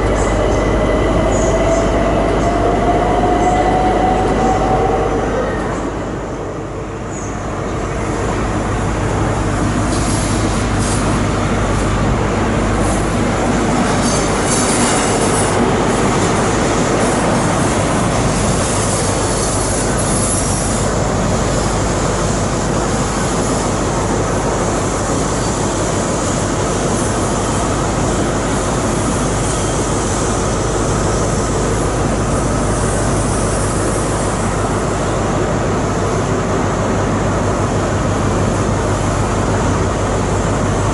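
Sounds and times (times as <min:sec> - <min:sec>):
train running: 0:00.0 - 0:40.9.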